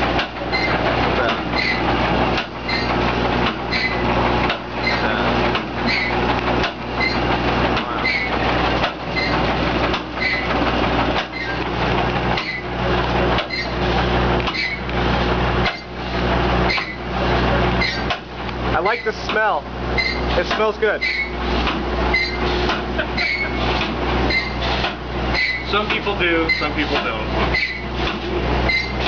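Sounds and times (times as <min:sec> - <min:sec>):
steam engine pulsing: 0:00.0 - 0:29.0.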